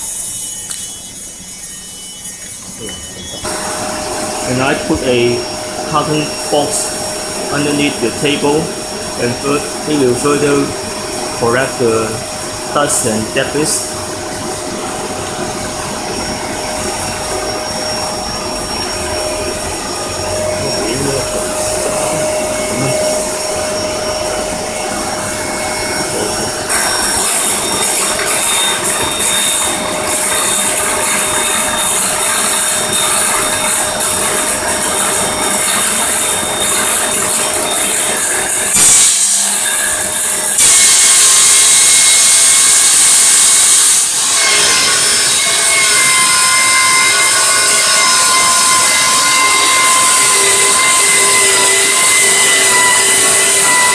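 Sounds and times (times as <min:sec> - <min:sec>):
circular saw running: 0:00.0 - 0:53.9
vacuum cleaner whining: 0:00.0 - 0:53.9.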